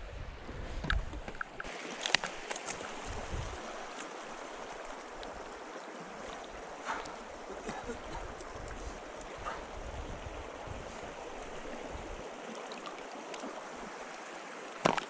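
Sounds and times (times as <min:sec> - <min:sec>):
flowing stream water: 0:00.0 - 0:15.0.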